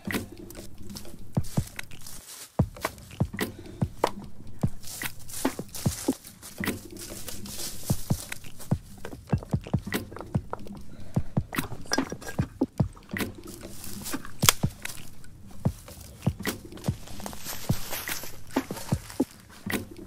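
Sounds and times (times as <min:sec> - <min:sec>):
footsteps on grass: 0:00.0 - 0:20.0
stones knocking together: 0:00.9 - 0:19.9.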